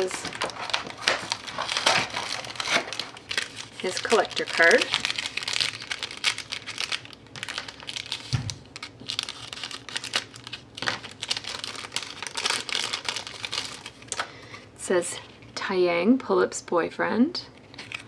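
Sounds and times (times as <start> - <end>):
plastic sleeve crinkling: 0.0 - 14.3, 17.6 - 18.0.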